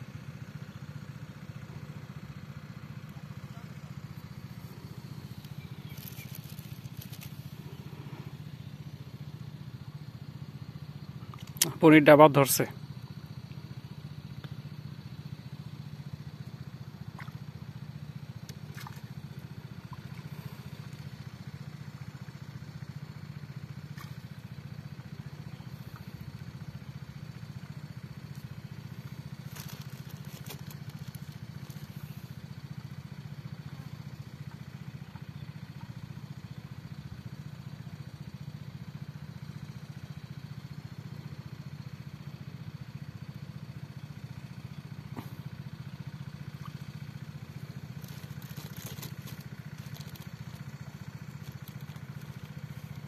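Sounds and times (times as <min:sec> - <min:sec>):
small pump engine droning: 0:00.0 - 0:53.0.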